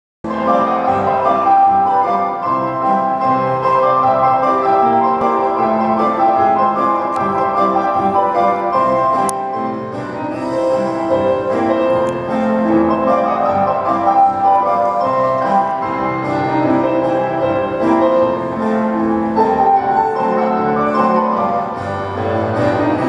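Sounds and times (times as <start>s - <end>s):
instrumental piano music: 0.3s - 23.0s.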